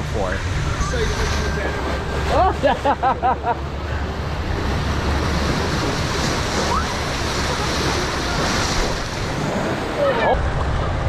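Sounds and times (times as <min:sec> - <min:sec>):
whitewater rushing around raft: 0:00.0 - 0:11.0.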